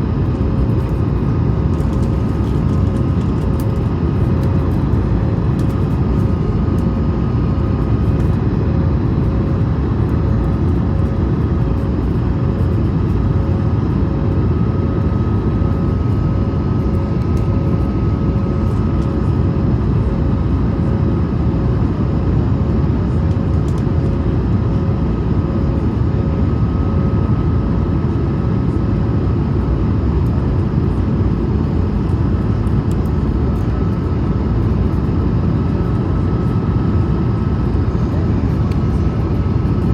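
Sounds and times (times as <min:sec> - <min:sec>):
aircraft cabin roar: 0:00.0 - 0:39.9.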